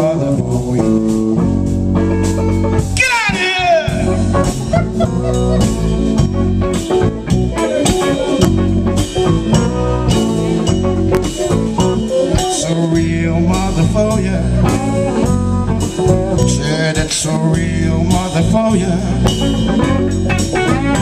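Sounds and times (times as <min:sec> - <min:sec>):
drum kit beat: 0:00.0 - 0:21.0
electric bass: 0:00.0 - 0:21.0
electric guitar: 0:00.0 - 0:21.0
keyboard: 0:00.0 - 0:21.0.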